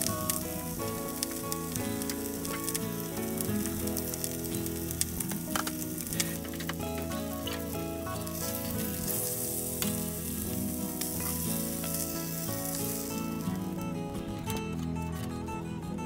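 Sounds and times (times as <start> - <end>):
chicken sizzling in a frying pan: 0.0 - 13.8.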